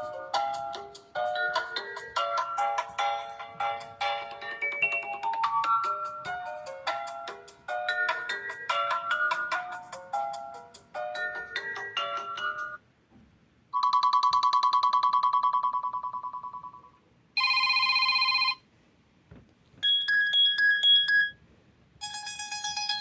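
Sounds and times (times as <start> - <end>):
phone ringtone melody: 0.0 - 12.8, 13.7 - 18.6, 19.8 - 21.4, 22.0 - 23.0.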